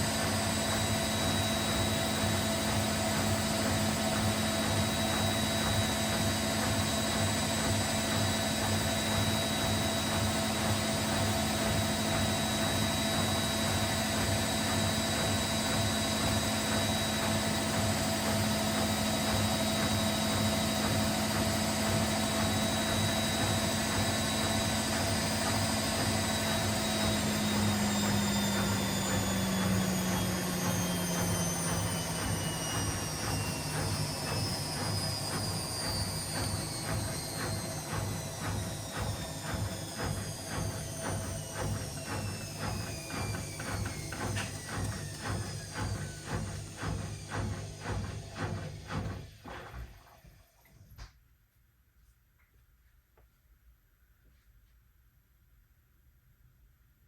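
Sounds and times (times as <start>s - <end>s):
washing machine spinning: 0.0s - 51.0s.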